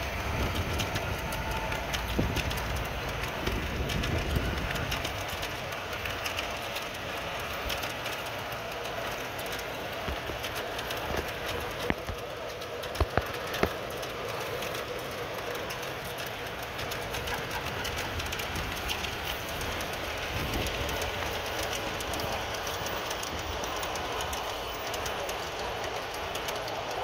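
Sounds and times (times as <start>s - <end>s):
model train wheels clicking: 0.0s - 27.0s.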